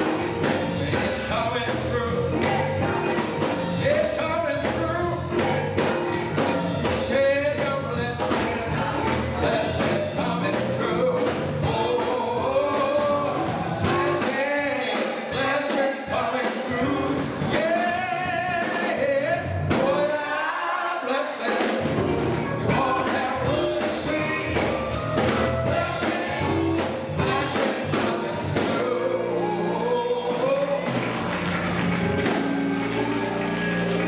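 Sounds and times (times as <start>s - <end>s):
band accompaniment: 0.0s - 34.0s
gospel choir singing: 0.0s - 34.0s
steady percussion: 0.0s - 34.0s.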